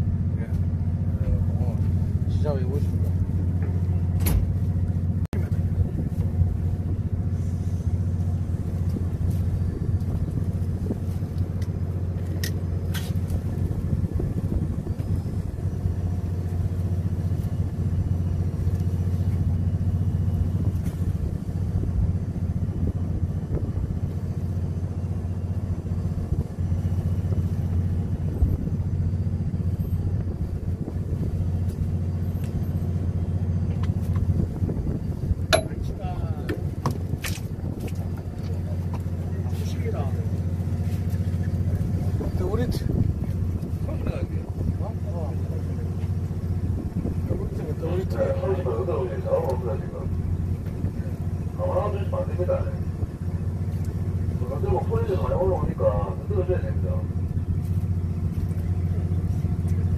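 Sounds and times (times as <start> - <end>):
boat machinery droning: 0.0 - 59.9.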